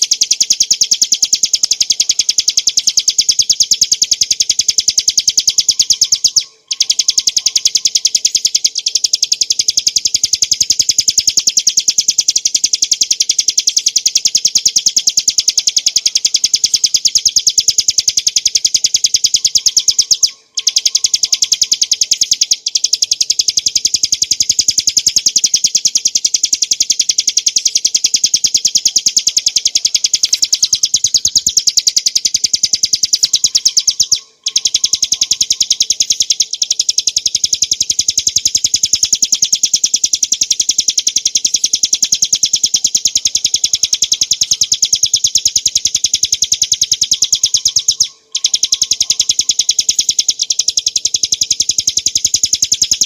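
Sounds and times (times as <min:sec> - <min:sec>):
bird singing fast rattle: 0:00.0 - 0:53.0.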